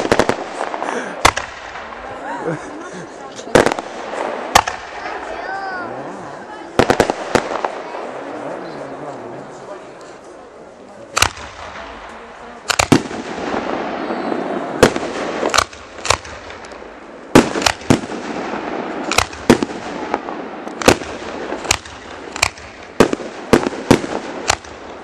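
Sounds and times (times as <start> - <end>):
fireworks crackling hiss: 0.0 - 2.2, 3.0 - 8.6, 11.2 - 25.0
fireworks bangs: 0.0 - 8.9, 11.1 - 25.0.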